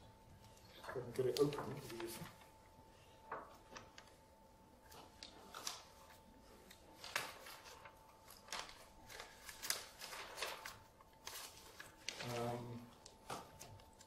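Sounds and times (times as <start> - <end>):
paper rustling and crinkling: 0.9 - 2.6, 3.3 - 4.2, 4.8 - 14.0.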